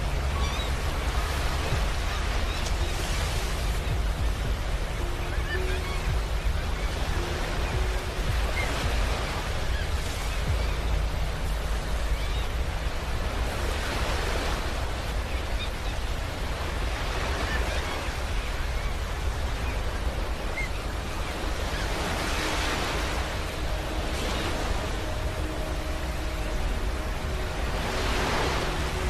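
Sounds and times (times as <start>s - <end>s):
ocean surf breaking on beach: 0.0s - 29.0s.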